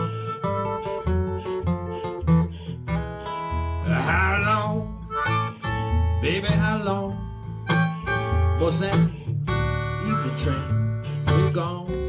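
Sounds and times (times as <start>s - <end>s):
acoustic guitar picking: 0.0s - 12.0s
harmonica playing blues: 0.0s - 12.0s.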